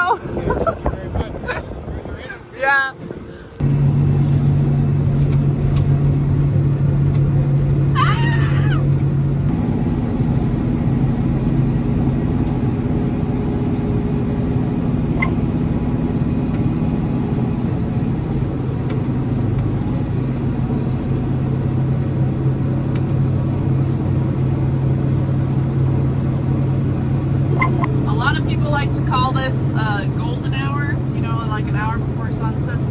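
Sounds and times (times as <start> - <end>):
vehicle engine droning: 0.0 - 32.9.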